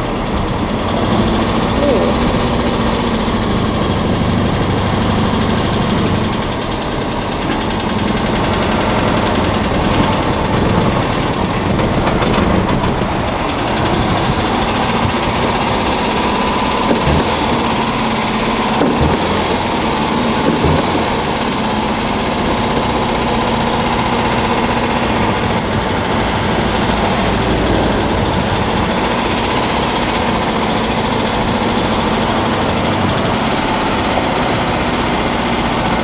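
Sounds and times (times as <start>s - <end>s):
car engine running: 0.0s - 36.0s
road noise: 0.0s - 36.0s.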